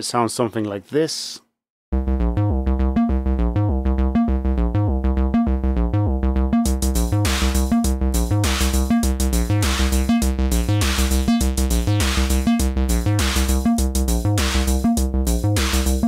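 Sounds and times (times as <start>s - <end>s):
acid bassline: 1.9s - 16.0s.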